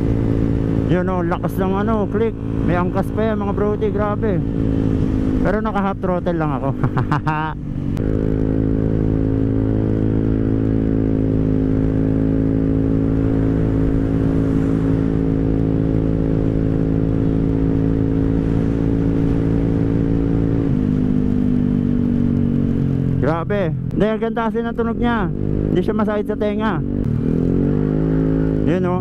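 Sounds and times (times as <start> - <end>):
scooter engine running: 0.0 - 23.9.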